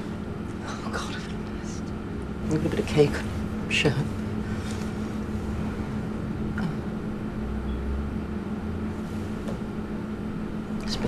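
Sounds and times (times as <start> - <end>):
deep rumble: 0.0 - 9.3
low background hum: 0.0 - 11.0.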